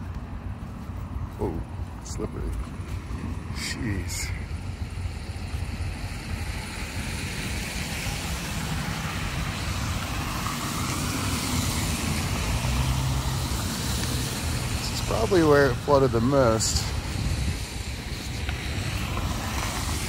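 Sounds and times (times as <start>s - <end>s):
low engine hum: 0.0s - 20.0s
traffic noise: 0.0s - 20.0s.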